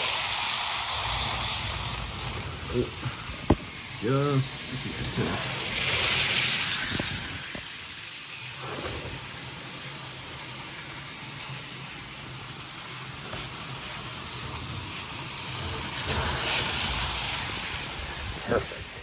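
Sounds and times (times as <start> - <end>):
model train motor humming: 0.0 - 19.0
wheels rolling on rails: 0.0 - 19.0.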